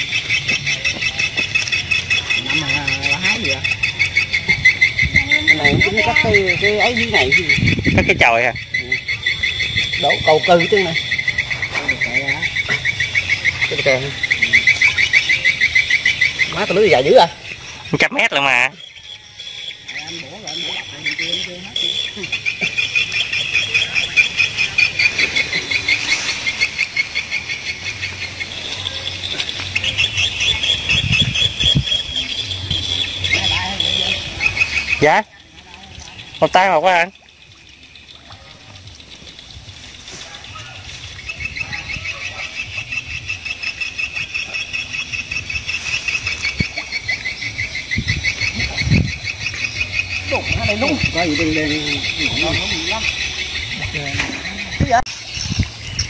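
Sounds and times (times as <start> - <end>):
high-pitched wildlife chirping: 0.0 - 56.0.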